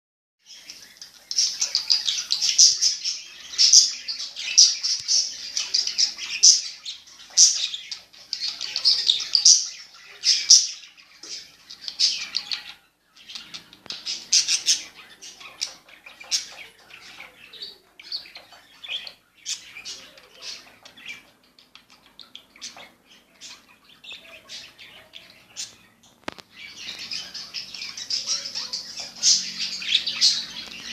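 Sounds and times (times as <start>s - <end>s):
budgerigars chirping: 0.5s - 30.9s.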